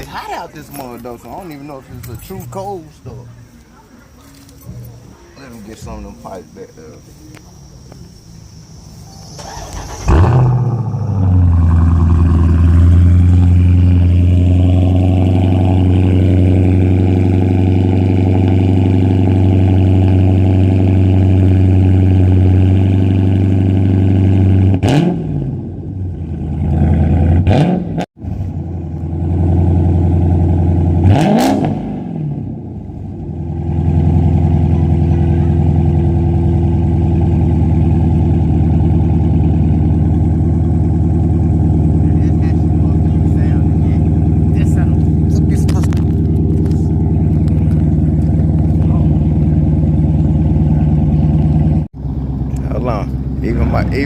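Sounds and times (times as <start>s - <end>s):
car engine starting and idling: 4.3s - 54.0s
engine revving in throttle blips: 8.5s - 54.0s.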